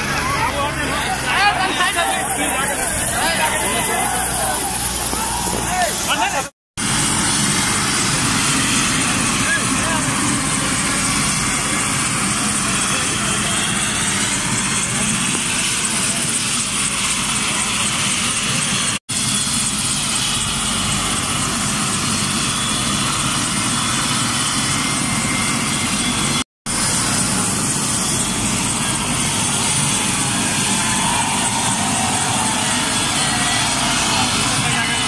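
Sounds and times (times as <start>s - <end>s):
helicopter turbine and rotor whir: 0.0s - 35.0s.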